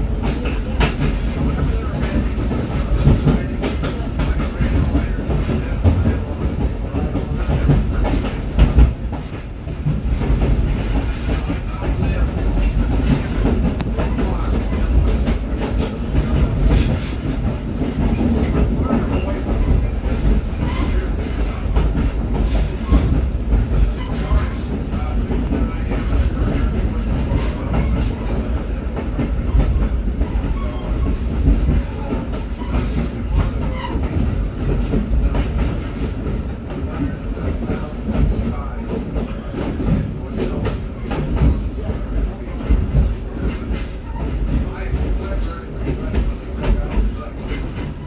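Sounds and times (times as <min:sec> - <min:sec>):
train car rumbling: 0:00.0 - 0:48.0.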